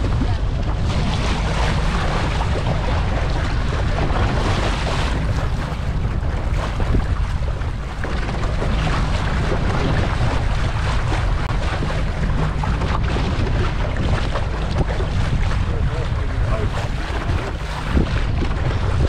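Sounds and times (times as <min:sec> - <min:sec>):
boat engine rumble: 0:00.0 - 0:19.0
rushing water: 0:00.0 - 0:19.0
wind buffeting microphone: 0:00.0 - 0:19.0.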